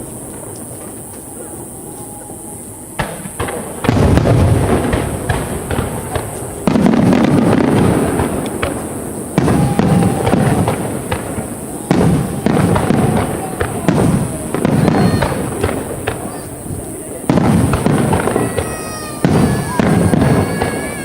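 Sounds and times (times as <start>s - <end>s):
fireworks booming and crackling: 0.0s - 21.0s.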